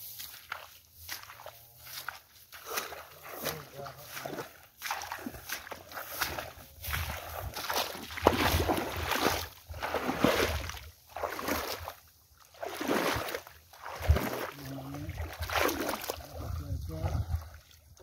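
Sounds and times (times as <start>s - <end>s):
legs wading through shallow water: 0.0s - 18.0s.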